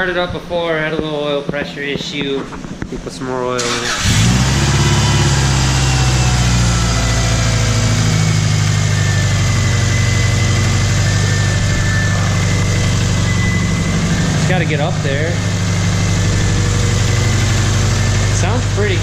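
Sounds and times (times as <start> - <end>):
car engine idling: 3.6 - 19.0.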